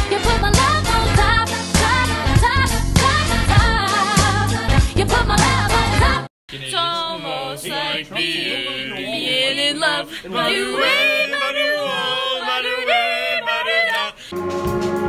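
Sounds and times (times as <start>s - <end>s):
voices singing without instruments: 0.0s - 14.3s.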